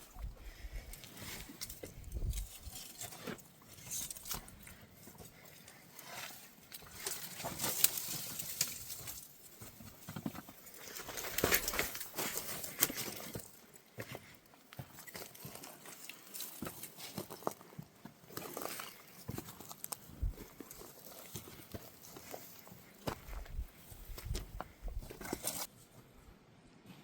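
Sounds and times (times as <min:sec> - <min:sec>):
footsteps crunching on rough ground: 0:00.2 - 0:25.7.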